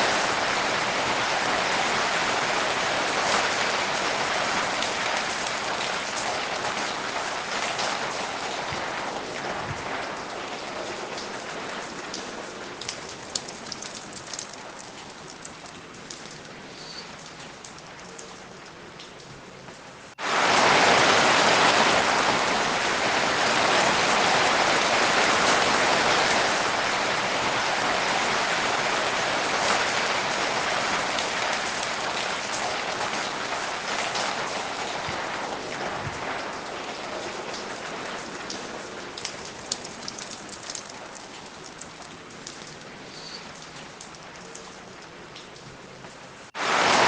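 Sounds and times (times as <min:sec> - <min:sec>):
rain downpour: 0:00.0 - 0:47.0.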